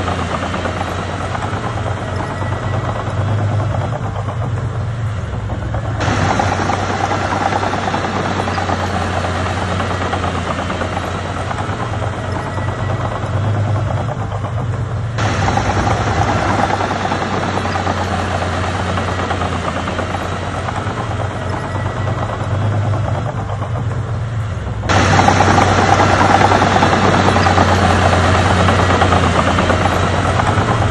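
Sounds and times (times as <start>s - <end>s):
bulldozer diesel engine running: 0.0s - 30.9s
dense rattling clatter: 0.0s - 30.9s.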